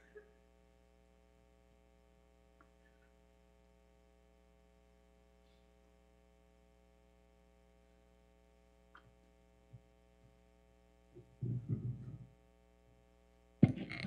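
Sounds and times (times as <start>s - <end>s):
mains hum: 0.0s - 14.0s.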